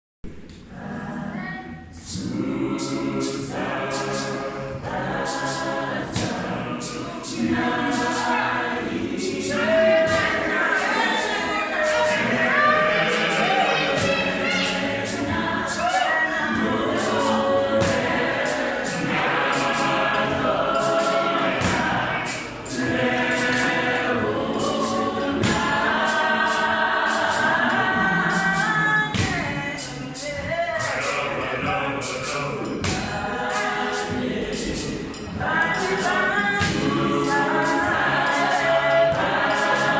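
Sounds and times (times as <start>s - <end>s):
gospel choir singing: 0.3s - 39.9s
percussive beat: 2.0s - 39.9s.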